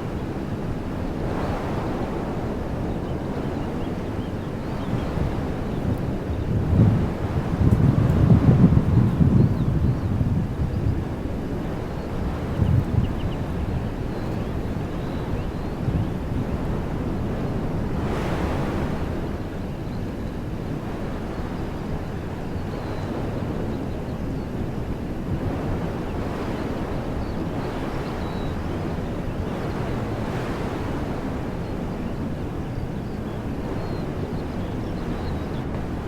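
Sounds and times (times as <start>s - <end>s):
wind blowing through trees: 0.0s - 36.0s.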